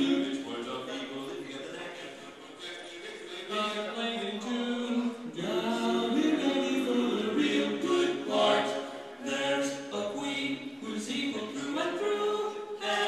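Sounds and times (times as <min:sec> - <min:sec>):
men singing a cappella harmony: 0:00.0 - 0:00.6, 0:02.6 - 0:13.0.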